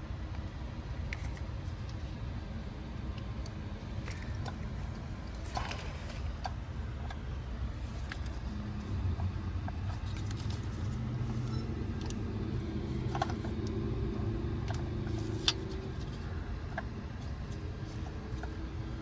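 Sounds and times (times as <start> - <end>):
motor vehicle rumble: 0.0 - 19.0
engine parts clicking and tapping: 0.2 - 19.0.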